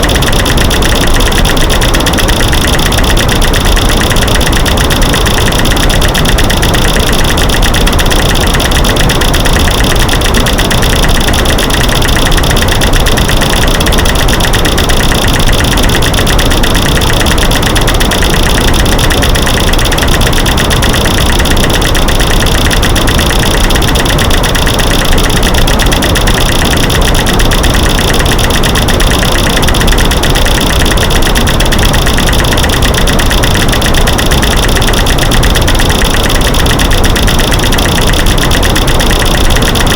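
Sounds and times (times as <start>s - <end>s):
rapid clicks and knocking clatter: 0.0s - 39.9s.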